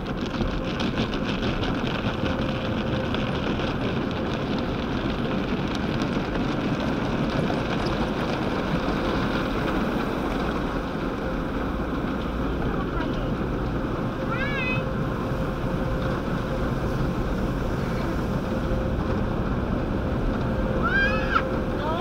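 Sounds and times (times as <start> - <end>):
car wash water spray rushing: 0.0 - 22.0.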